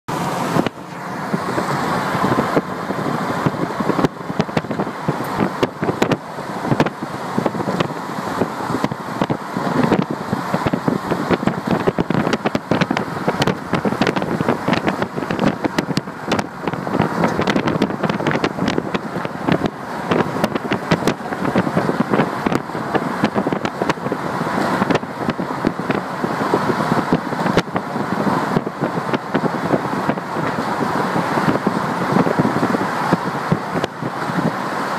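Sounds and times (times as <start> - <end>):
car road noise: 0.0 - 34.9
wind buffeting microphone: 0.1 - 34.9.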